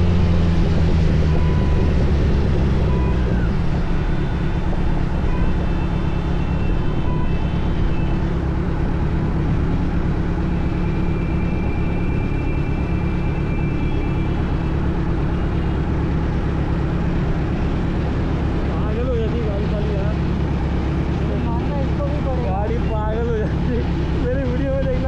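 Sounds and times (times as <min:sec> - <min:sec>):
motorcycle engine rumble: 0:00.0 - 0:25.0.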